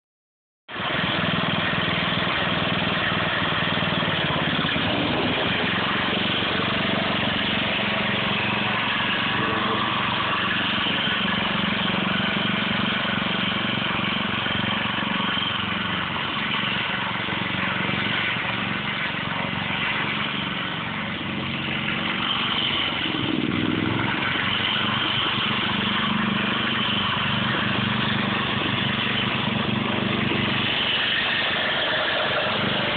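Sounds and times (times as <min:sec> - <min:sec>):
go-kart engine running: 0:00.7 - 0:32.9.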